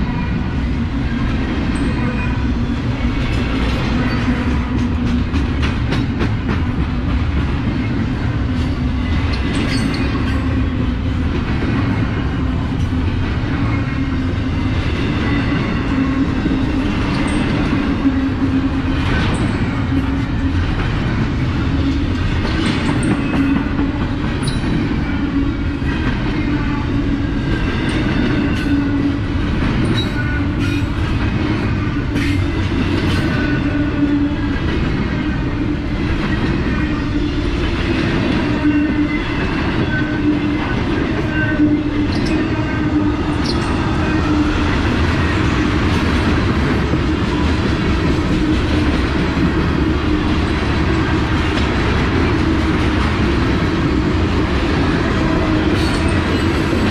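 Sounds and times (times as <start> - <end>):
freight train wheels rumbling on rails: 0.0 - 56.9
train cars clanking: 0.0 - 56.9.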